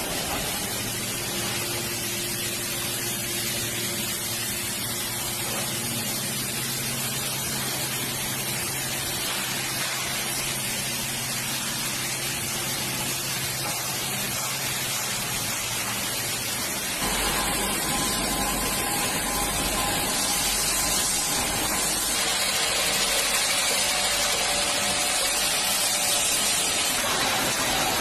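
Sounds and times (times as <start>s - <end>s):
machinery hiss with low hum: 0.0s - 28.0s.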